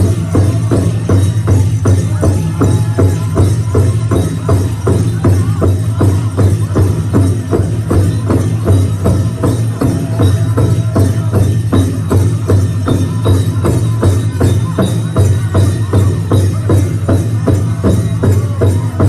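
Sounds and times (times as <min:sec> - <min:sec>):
drum beaten fast: 0:00.0 - 0:19.0
group singing: 0:02.1 - 0:19.0.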